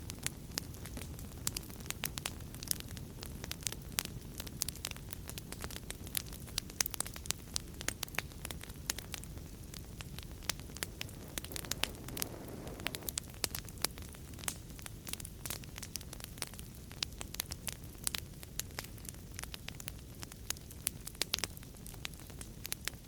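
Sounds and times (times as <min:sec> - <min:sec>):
low rumble of burning: 0:00.0 - 0:23.0
wood fire crackling and popping: 0:00.0 - 0:23.0.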